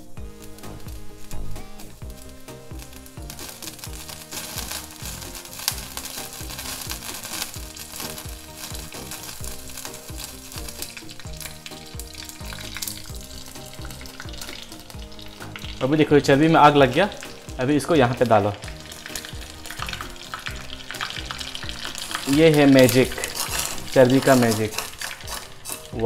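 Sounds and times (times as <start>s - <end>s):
background music with steady beat: 0.0s - 26.0s
fat sizzling and crackling: 0.0s - 26.0s.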